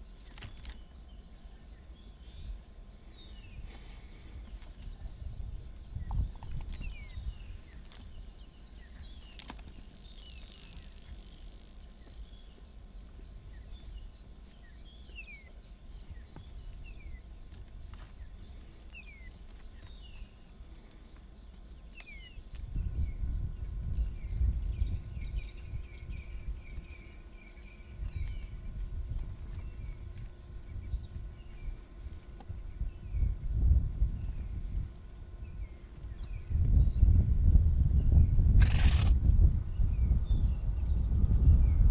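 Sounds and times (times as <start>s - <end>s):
high insect drone: 0.0s - 41.9s
insects chirping trill: 0.0s - 41.9s.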